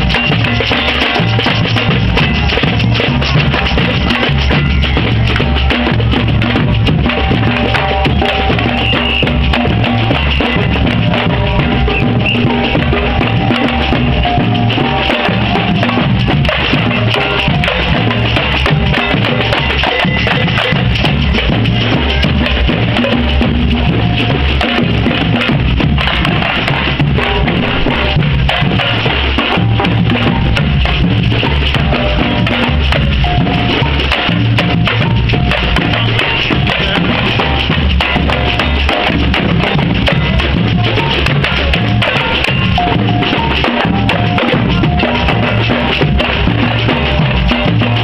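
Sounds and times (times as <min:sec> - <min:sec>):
deep bass drums beating: 0:00.0 - 0:48.0
samba drum band playing: 0:00.0 - 0:48.0.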